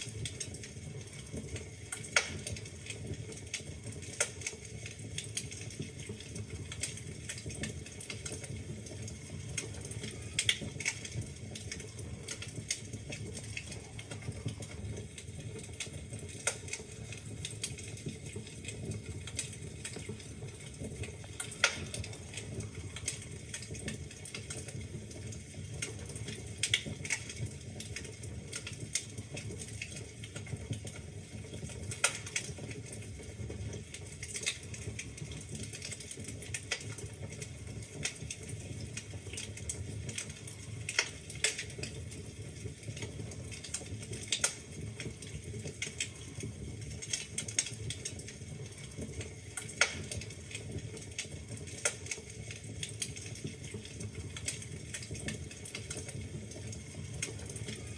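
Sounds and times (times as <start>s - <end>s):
fire popping: 0.0s - 57.9s
low rumble of flames: 0.0s - 57.9s
logs crackling and snapping: 0.3s - 31.0s, 31.9s - 33.0s, 33.7s - 42.1s, 42.8s - 46.4s, 47.0s - 57.9s.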